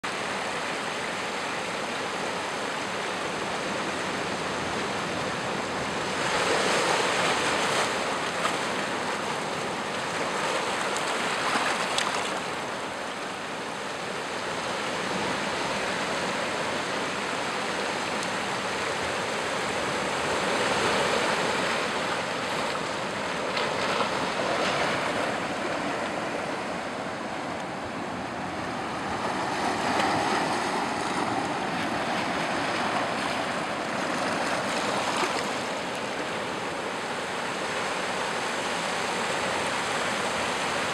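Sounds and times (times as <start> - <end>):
ocean surf washing over rocks: 0.1 - 40.9.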